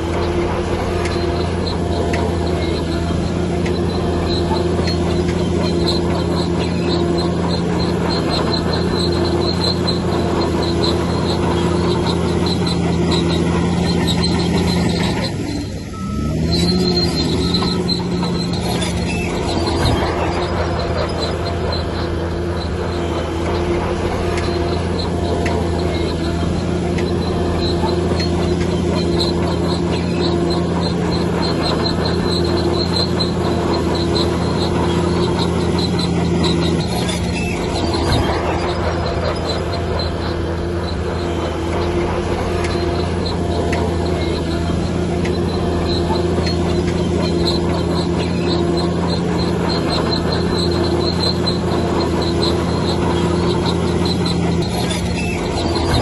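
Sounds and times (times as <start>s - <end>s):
bulldozer diesel engine running: 0.0s - 56.0s
rapid high-pitched squeak: 0.0s - 56.0s.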